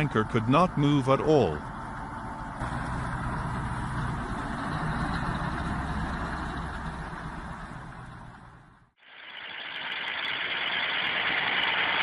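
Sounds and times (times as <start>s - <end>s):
heavy diesel engine under load: 0.0s - 12.0s.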